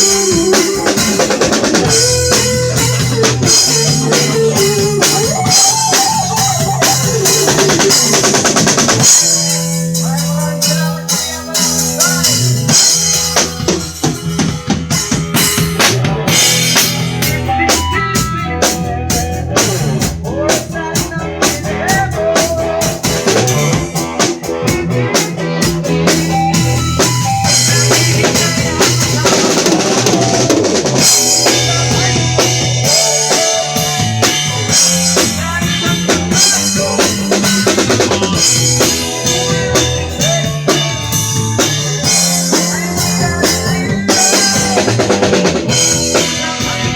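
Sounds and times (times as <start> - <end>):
band playing live: 0.0 - 46.9
drum kit beat with rimshots: 0.0 - 46.9
low bass notes: 0.0 - 46.9.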